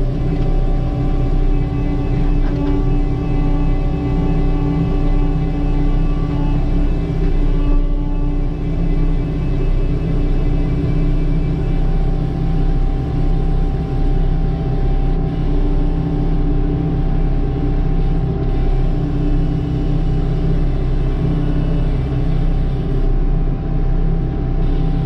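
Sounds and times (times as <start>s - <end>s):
diesel engine droning: 0.0s - 23.2s
steady machine whine: 0.0s - 25.0s.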